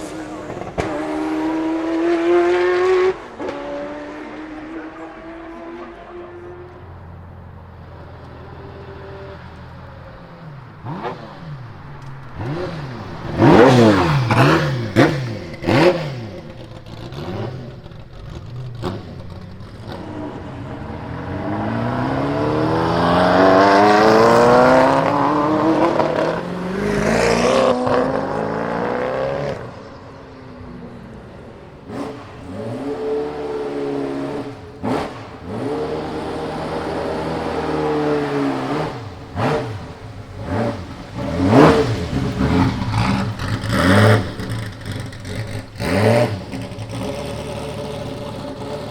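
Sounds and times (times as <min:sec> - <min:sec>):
car accelerating through gears: 0:00.0 - 0:48.9
car engine revving: 0:00.0 - 0:48.9.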